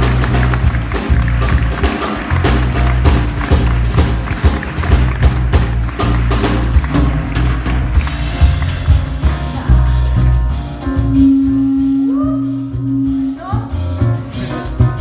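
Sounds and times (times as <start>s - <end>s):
bass line: 0.0s - 15.0s
drums: 0.0s - 15.0s
live jazzy band: 0.0s - 15.0s.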